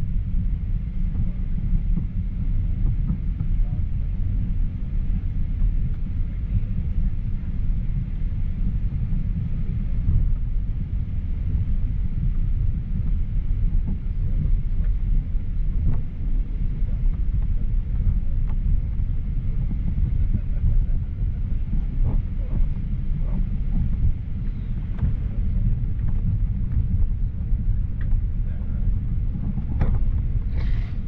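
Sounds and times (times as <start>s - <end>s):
airplane engine rumble in cabin: 0.0s - 31.0s.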